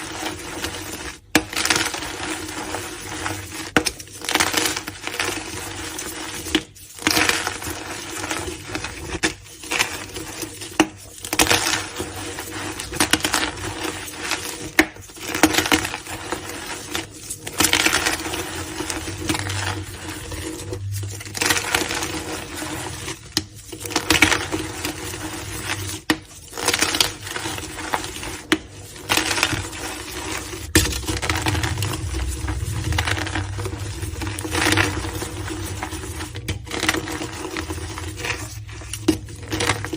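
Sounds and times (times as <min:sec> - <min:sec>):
chalk blocks being crushed: 0:00.0 - 0:39.9.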